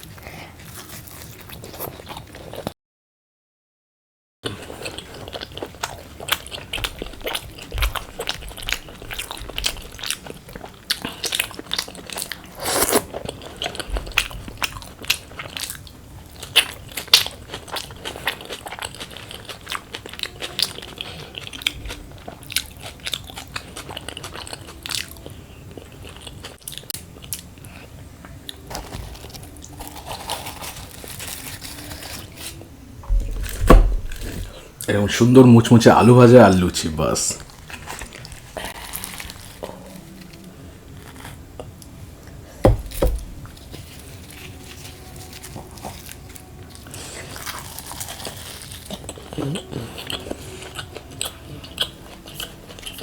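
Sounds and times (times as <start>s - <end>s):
crunchy chewing: 0.0s - 2.7s, 4.4s - 34.9s, 37.4s - 53.0s.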